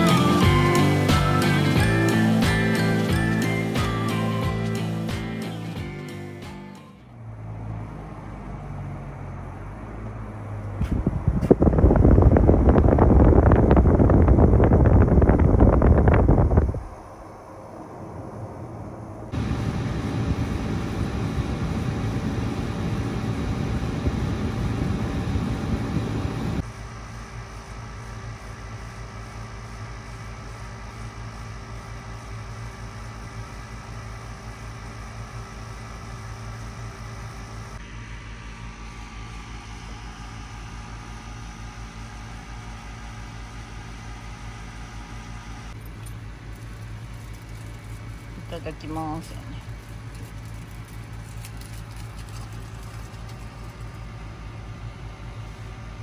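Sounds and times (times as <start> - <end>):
mechanical hum with low tones: 0.0 - 56.0.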